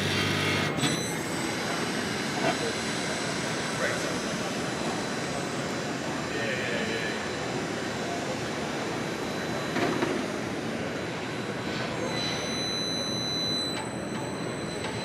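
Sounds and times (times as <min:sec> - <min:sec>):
distant crowd chatter: 0:01.0 - 0:15.0.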